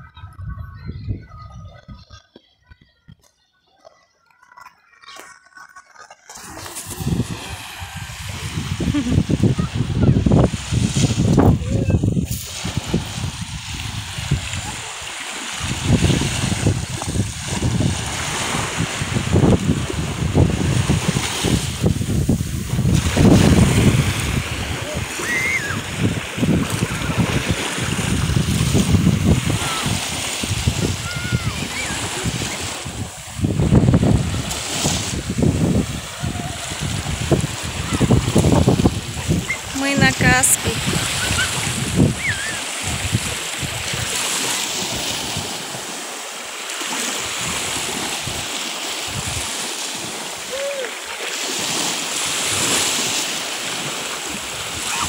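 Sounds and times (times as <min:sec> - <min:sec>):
wind buffeting microphone: 0:00.0 - 0:03.3, 0:06.4 - 0:46.0, 0:47.2 - 0:50.6
small waves lapping: 0:03.8 - 0:55.0.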